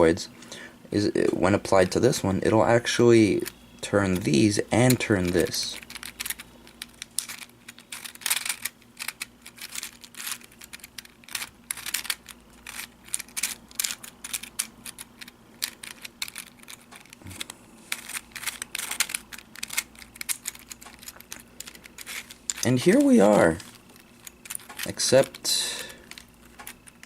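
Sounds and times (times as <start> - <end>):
plastic puzzle pieces clicking: 3.3 - 27.0.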